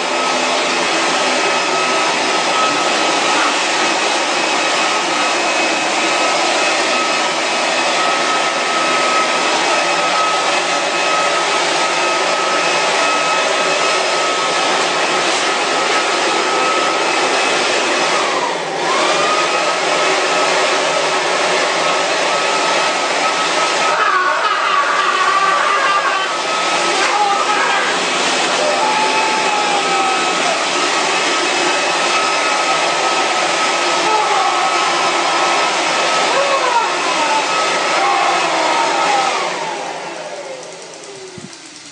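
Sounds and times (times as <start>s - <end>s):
electric blower motor whine: 0.0s - 41.9s.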